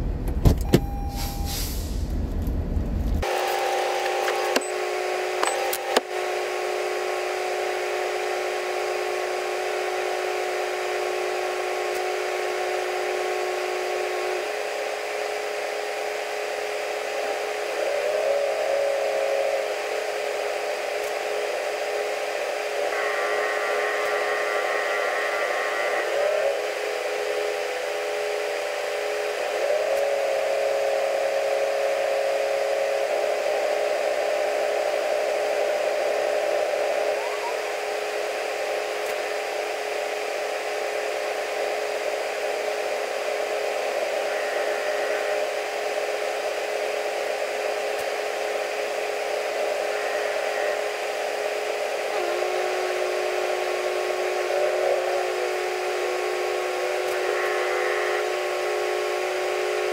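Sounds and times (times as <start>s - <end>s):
locomotive mechanical whine: 0.0s - 59.9s.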